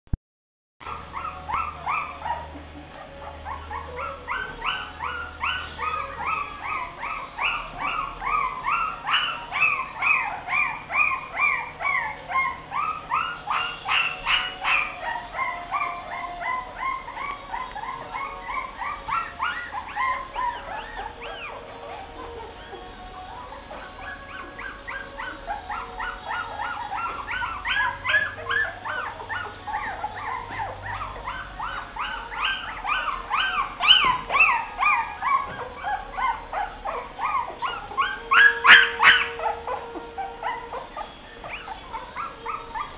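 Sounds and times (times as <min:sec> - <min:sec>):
puppies whimpering and squealing: 0:00.8 - 0:42.9.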